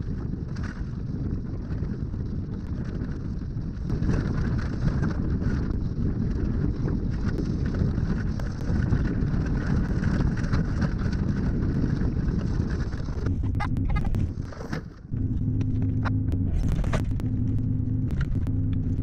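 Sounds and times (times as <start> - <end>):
steady engine hum: 0.0 - 19.0
vehicle rumble: 0.0 - 19.0
wind buffeting microphone: 0.0 - 19.0.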